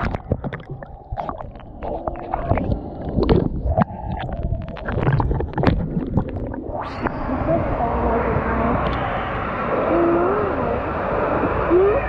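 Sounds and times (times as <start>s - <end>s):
underwater moving water gurgling: 0.0s - 12.0s.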